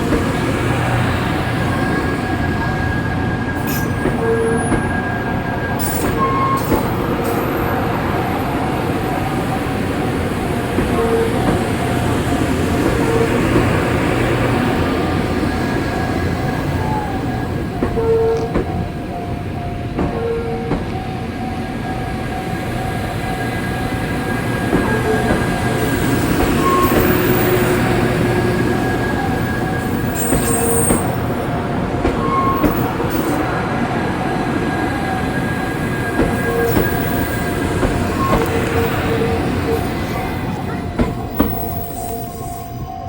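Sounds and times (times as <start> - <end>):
level crossing warning bell: 0.0 - 43.0
train rumbling past: 0.0 - 43.0.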